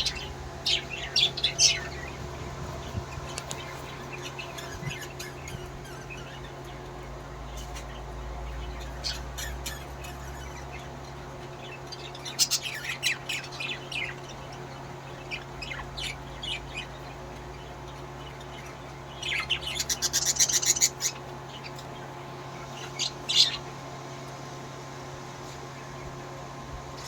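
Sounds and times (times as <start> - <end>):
parrots chirping and squawking: 0.0 - 23.8
steady low hum: 0.0 - 27.0.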